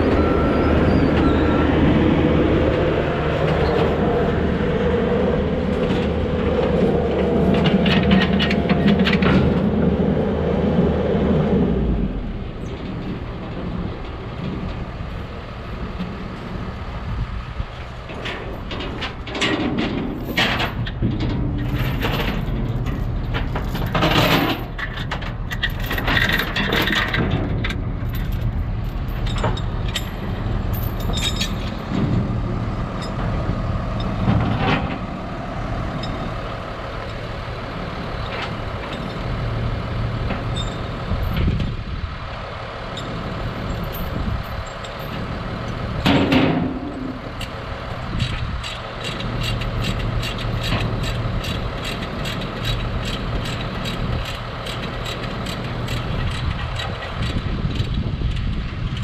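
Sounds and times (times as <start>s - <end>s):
engine knocks and clatter: 0.0s - 59.0s.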